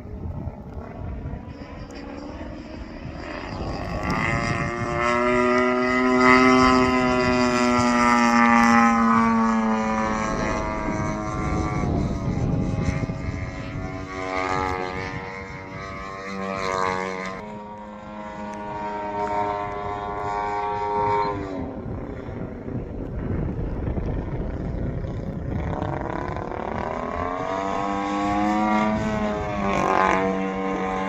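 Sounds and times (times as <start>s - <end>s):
model plane propeller drone: 0.0s - 31.0s.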